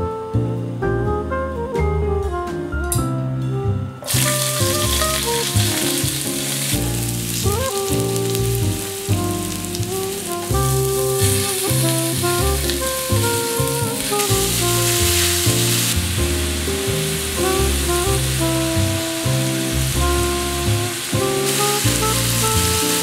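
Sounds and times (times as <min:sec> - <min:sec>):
background music: 0:00.0 - 0:23.0
food sizzling in hot oil: 0:04.1 - 0:23.0.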